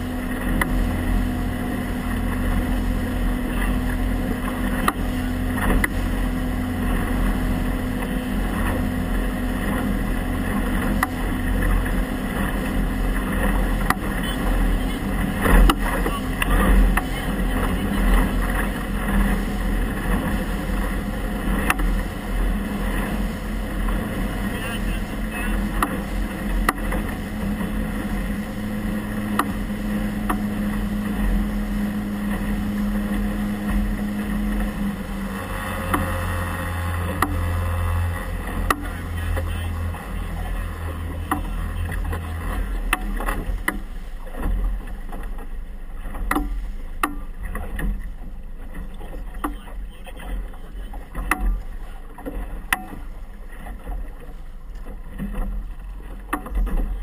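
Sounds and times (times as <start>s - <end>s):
boat motor running: 0.0s - 57.0s
water slapping against hull: 0.0s - 57.0s.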